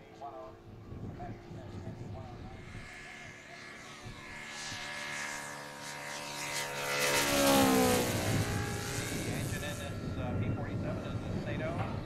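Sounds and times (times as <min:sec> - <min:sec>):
model airplane engine passing: 0:00.0 - 0:12.0.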